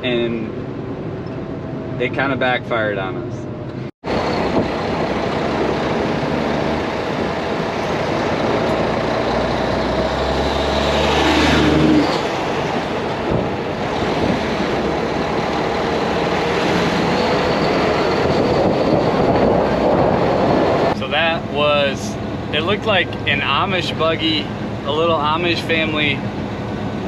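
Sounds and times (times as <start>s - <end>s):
truck engine and road noise: 0.0s - 27.0s.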